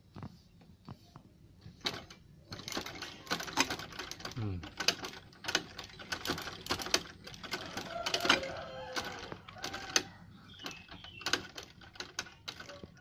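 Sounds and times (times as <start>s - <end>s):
mechanism clicking and knocking: 1.6s - 13.0s
treadle sewing machine running: 1.8s - 13.0s.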